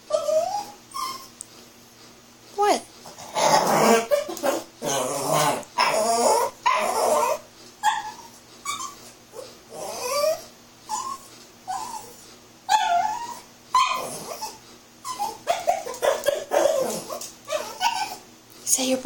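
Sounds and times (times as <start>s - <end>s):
puppy whining and yipping: 0.0s - 1.4s, 3.5s - 18.3s.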